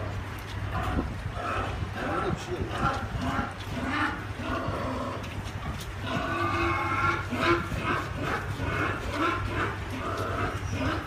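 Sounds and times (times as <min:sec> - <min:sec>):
pigs squealing: 0:00.7 - 0:11.0.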